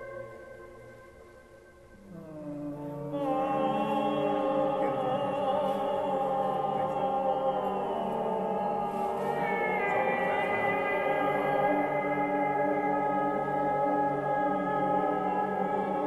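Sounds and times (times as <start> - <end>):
layered held voices chanting: 2.6 - 16.0.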